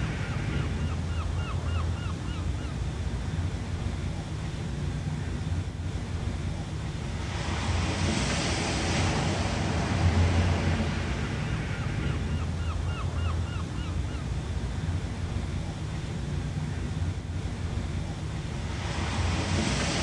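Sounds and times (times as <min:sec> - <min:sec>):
ocean waves breaking: 0:00.0 - 0:20.0
steady low rumble: 0:00.0 - 0:20.0.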